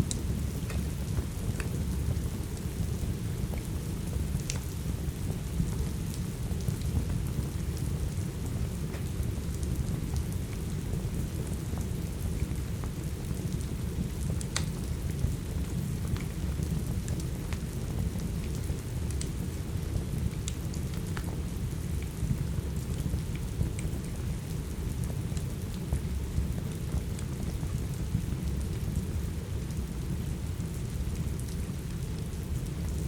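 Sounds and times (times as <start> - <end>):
wood fire popping and crackling: 0.0 - 33.0.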